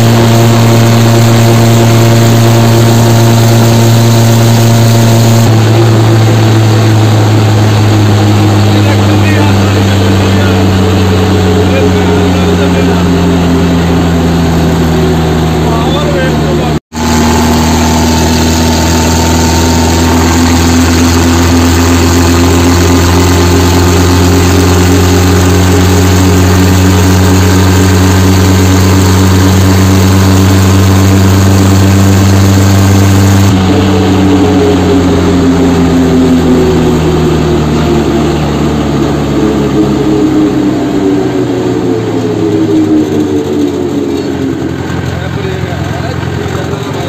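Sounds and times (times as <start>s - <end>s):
tractor diesel engine running hard: 0.0s - 47.0s.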